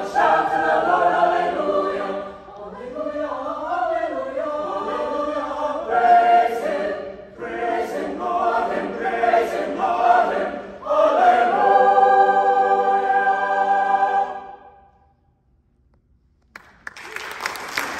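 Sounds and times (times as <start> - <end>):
mixed choir singing: 0.0 - 14.9.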